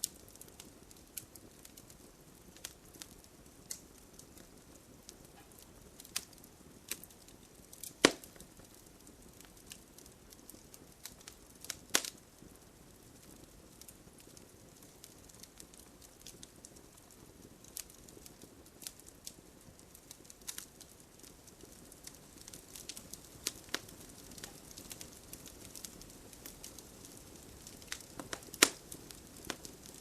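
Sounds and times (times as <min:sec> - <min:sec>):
soft low hiss: 0:00.0 - 0:30.0
wood fire crackling: 0:00.0 - 0:30.0.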